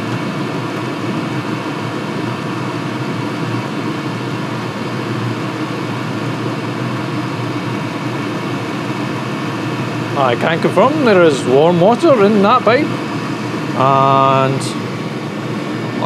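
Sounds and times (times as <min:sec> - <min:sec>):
diesel heater combustion and blower: 0:00.0 - 0:16.0.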